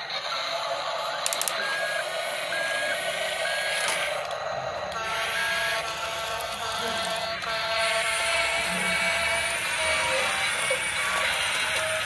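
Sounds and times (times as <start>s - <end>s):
toy electric motors whirring: 0.0s - 12.0s.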